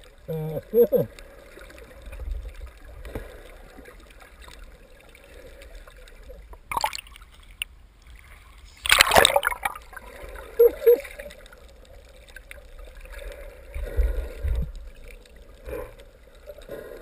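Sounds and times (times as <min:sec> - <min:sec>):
underwater rumble and gurgle: 0:00.0 - 0:17.0
water splashing and sloshing: 0:00.0 - 0:17.0.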